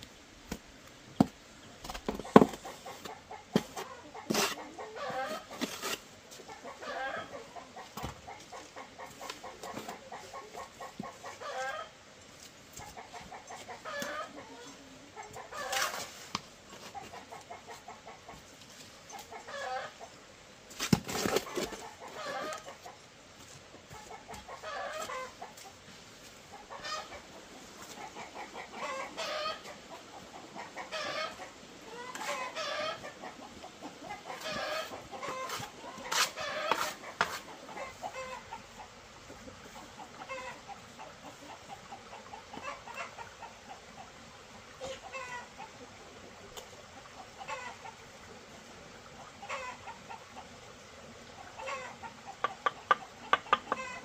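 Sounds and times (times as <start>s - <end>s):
chickens clucking: 1.8s - 12.0s, 12.8s - 20.2s, 20.8s - 48.3s, 49.1s - 54.0s.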